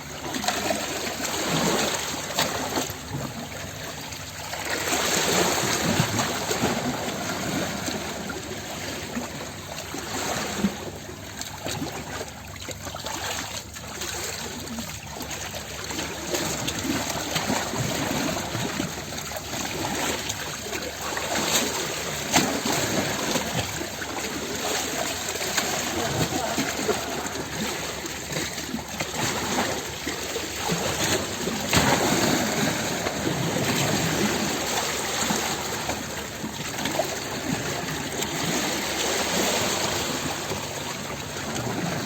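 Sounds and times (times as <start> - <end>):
small water splashes: 0.0 - 42.0
water trickling and gurgling: 0.0 - 42.0.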